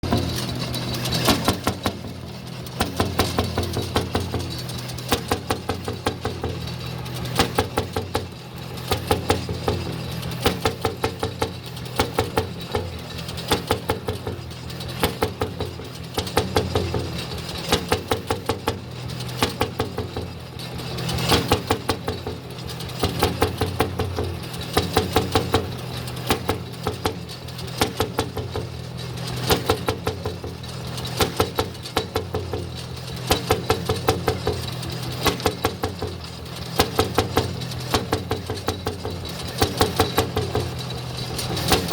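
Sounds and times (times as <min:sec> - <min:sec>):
low engine drone: 0:00.0 - 0:41.9
tractor engine exhaust beats: 0:00.0 - 0:41.9.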